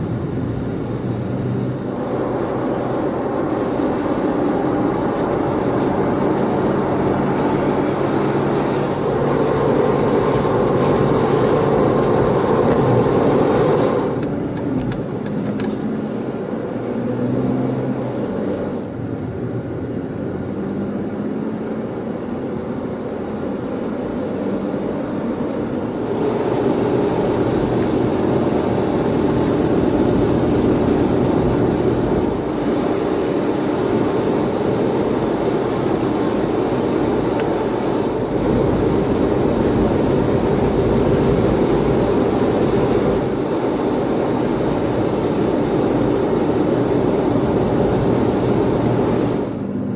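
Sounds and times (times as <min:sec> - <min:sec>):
car engine and tyres on wet road: 0:00.0 - 0:49.9.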